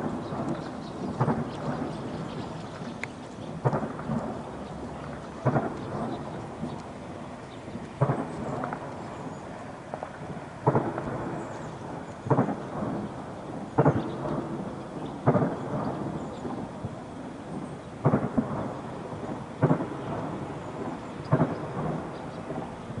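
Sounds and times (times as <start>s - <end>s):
distant weapons fire booms: 0.0s - 2.6s, 3.5s - 23.0s.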